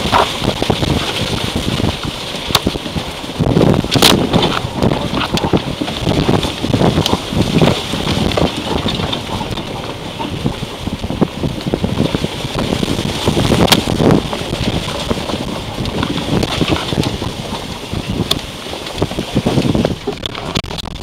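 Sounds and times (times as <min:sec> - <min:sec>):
tyre rumble: 0:00.0 - 0:21.0
wind buffeting microphone: 0:00.0 - 0:21.0.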